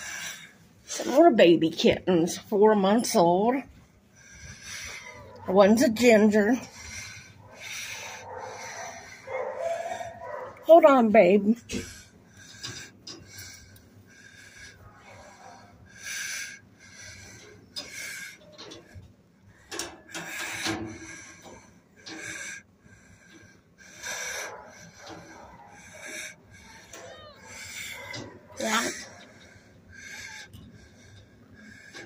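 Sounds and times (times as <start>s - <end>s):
wheezy noisy breathing: 0.0s - 1.4s, 3.6s - 11.0s, 11.6s - 32.0s.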